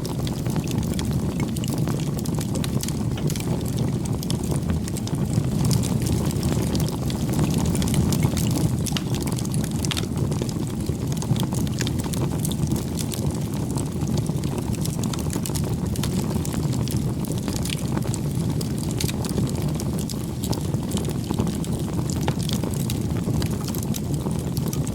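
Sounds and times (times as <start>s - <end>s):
burning wood crackling and popping: 0.0s - 24.9s
low rumble of flames: 0.0s - 24.9s.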